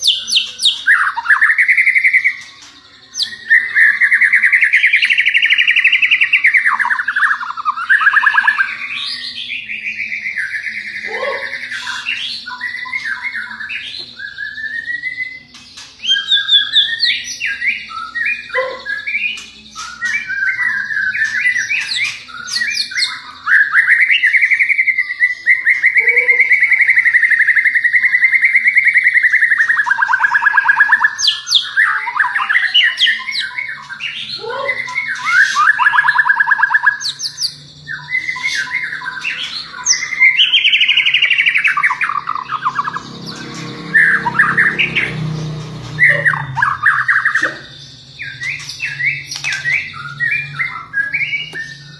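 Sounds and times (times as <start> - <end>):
songbird singing whistled phrases: 0.0 - 51.9.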